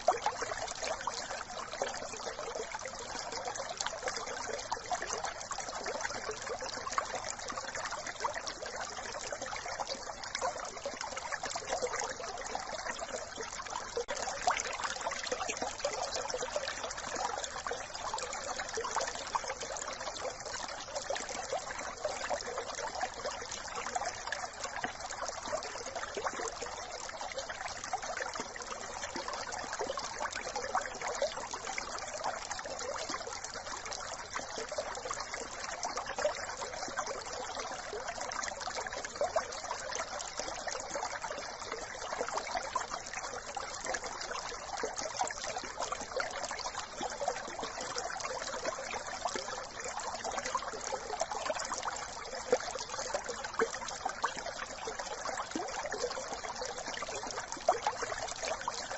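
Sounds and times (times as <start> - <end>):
brook babbling over stones: 0.0 - 58.9.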